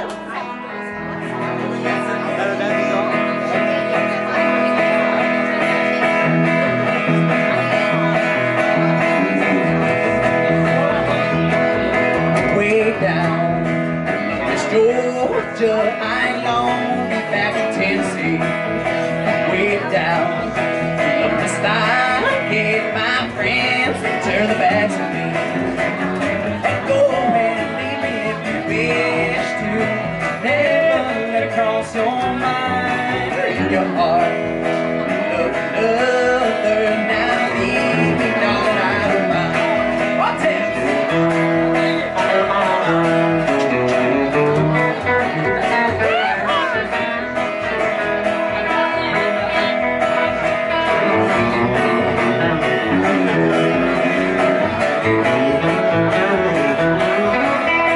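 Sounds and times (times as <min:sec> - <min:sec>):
electric guitars: 0:00.0 - 0:57.9
plucked upright bass: 0:00.0 - 0:57.9.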